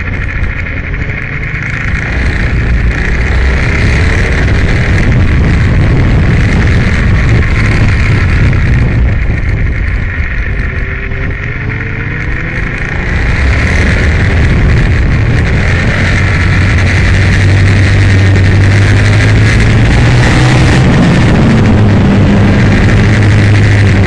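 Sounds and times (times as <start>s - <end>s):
motorcycle engine running hard: 0.0s - 24.0s
wind rush: 0.0s - 24.0s.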